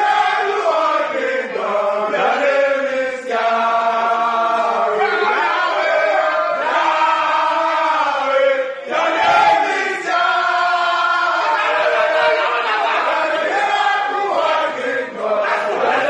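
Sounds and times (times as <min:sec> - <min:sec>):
men singing in unison: 0:00.0 - 0:16.0.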